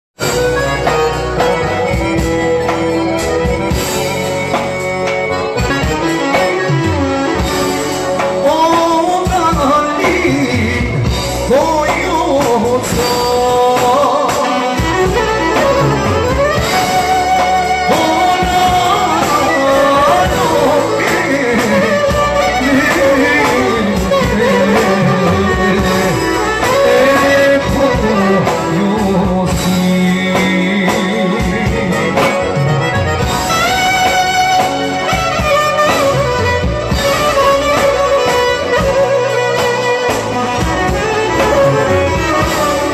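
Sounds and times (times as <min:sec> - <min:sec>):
clarinet playing ornamented melody: 0:00.2 - 0:10.1, 0:13.0 - 0:42.9
band accompaniment: 0:00.2 - 0:42.9.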